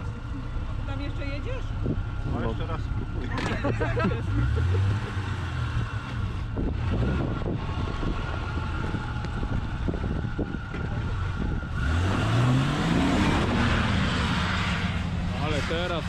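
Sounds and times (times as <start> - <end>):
suv engine rumbling and revving: 0.0 - 16.0.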